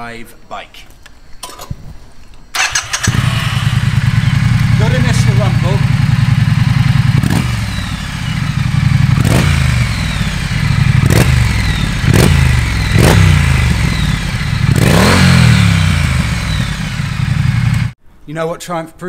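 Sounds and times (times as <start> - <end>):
motorcycle engine idling: 2.6 - 18.0.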